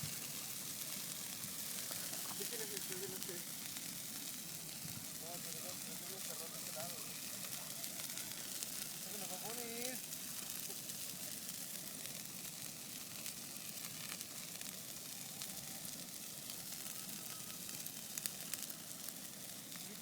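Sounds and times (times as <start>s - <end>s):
bonfire hissing and crackling: 0.0s - 20.0s.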